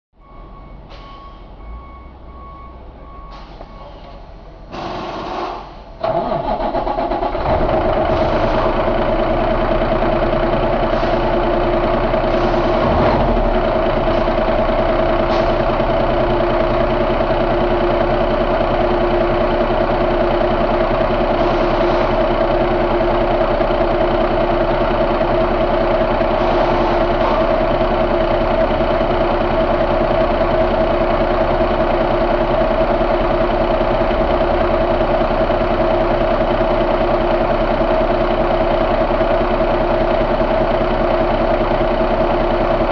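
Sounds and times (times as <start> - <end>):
diesel engine idling: 0.2 - 42.9.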